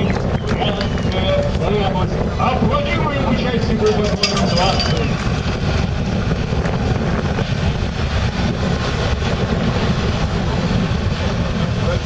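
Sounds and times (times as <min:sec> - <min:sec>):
diesel truck engine rumbling: 0:00.0 - 0:12.0
wind on microphone: 0:00.0 - 0:12.0.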